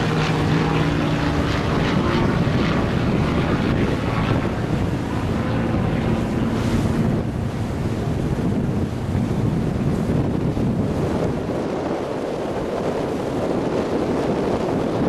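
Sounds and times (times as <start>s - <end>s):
engine drone: 0.0s - 15.0s
wind noise on microphone: 0.0s - 15.0s.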